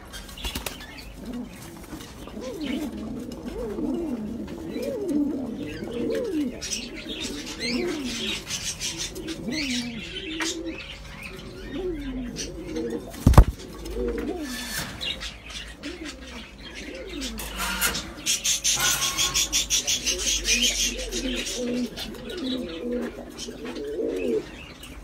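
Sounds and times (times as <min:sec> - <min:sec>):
pigeons cooing: 0:00.0 - 0:25.0
small birds chirping: 0:00.0 - 0:25.0.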